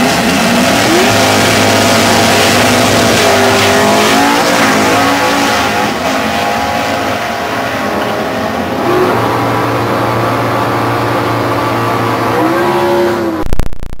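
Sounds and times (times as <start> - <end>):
drag cars accelerating: 0.0 - 13.5.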